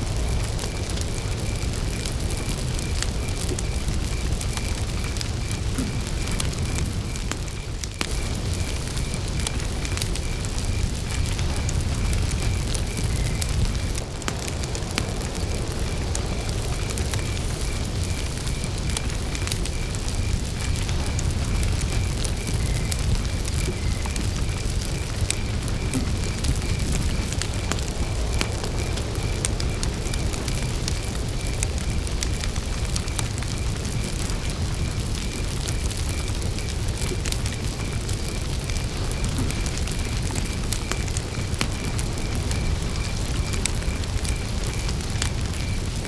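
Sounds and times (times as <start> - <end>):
campfire crackling and popping: 0.0 - 46.0
cricket chirping: 0.0 - 46.0.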